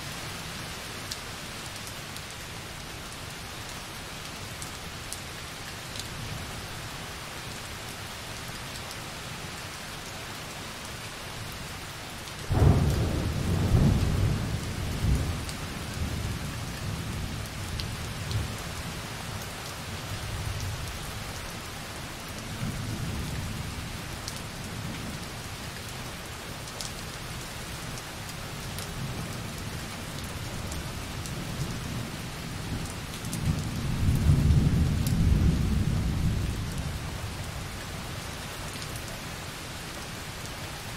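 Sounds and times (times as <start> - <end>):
light rain on a window: 0.0 - 40.9.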